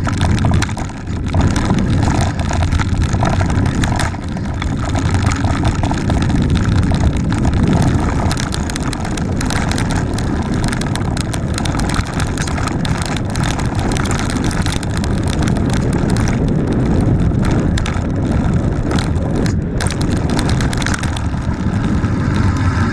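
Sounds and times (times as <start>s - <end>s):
bike knocking and rattling over bumps: 0.0s - 22.9s
bike tyre rumble: 0.0s - 22.9s
wind rushing over microphone: 0.0s - 22.9s.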